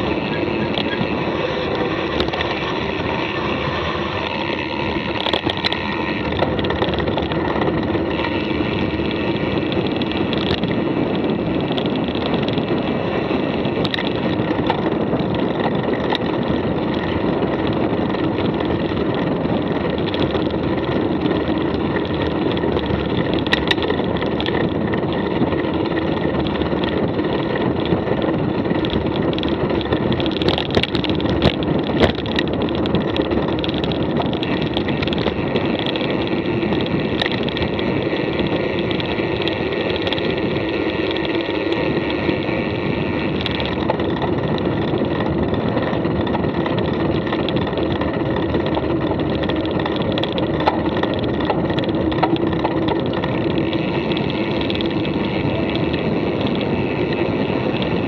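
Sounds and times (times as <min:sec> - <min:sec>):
bike clicks and rattles: 0:00.0 - 0:58.0
tyres rumbling: 0:00.0 - 0:58.0
wind noise: 0:00.0 - 0:58.0.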